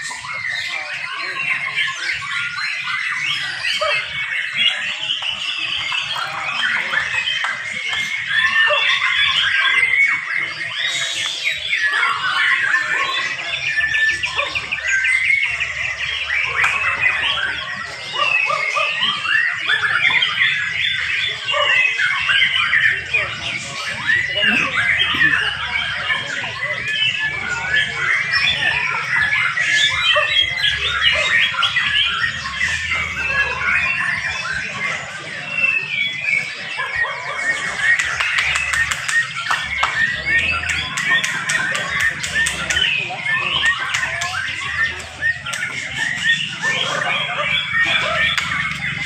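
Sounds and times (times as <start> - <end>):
birds singing whistled phrases: 0.0 - 49.0
fast rattling bird trill: 0.0 - 49.0.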